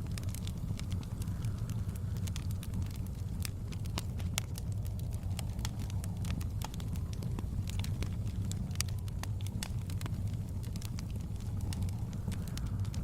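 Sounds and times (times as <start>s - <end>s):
steady low rumble: 0.0s - 13.0s
wood fire crackling and popping: 0.0s - 13.0s.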